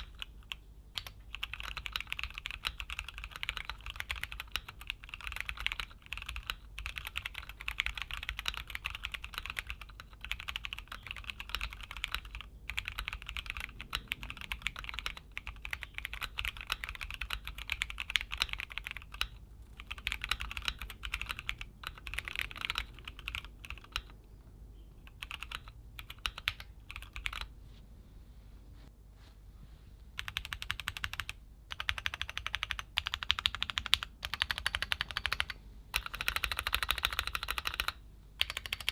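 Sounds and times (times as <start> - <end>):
mechanical keyboard typing: 0.0 - 24.2, 25.0 - 27.5, 30.2 - 38.9.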